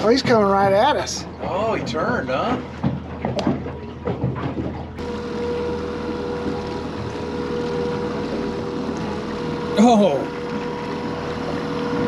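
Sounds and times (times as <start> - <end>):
boat motor humming: 0.0 - 12.0
water noise: 0.0 - 12.0
wind: 0.0 - 12.0.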